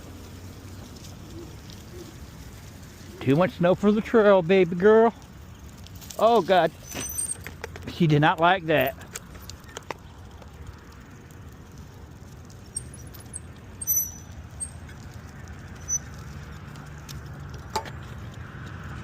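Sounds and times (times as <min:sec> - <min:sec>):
bicycle rumbling along street: 0:00.0 - 0:19.0
bike clicks and rattles: 0:00.0 - 0:19.0.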